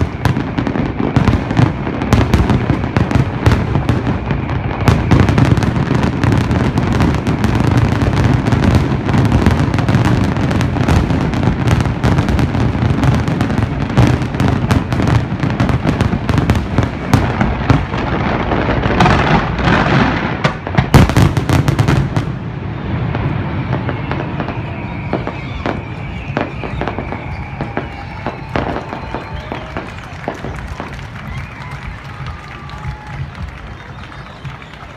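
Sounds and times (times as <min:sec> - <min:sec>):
fireworks crackling: 0:00.0 - 0:34.9.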